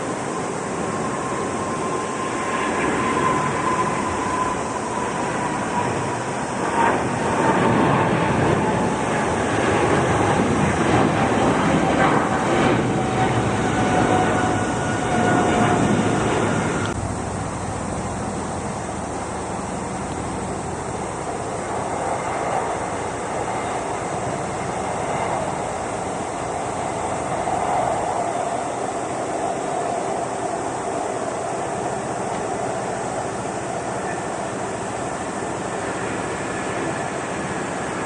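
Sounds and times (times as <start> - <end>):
jet airliner taking off: 0.0 - 38.0
jet engine whine: 0.0 - 38.0.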